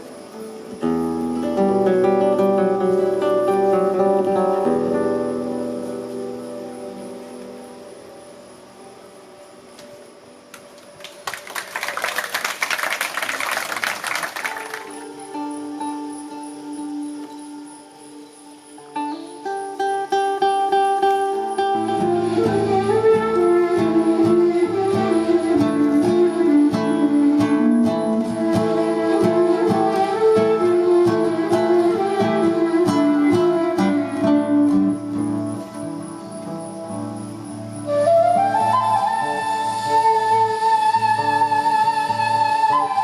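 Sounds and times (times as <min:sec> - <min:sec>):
plucked guitar-like music: 0:00.0 - 0:08.7, 0:14.7 - 0:43.0.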